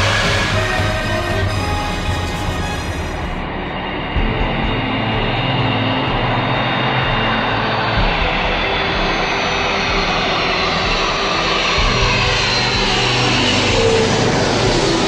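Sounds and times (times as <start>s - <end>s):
airplane engines whining: 0.0s - 15.0s.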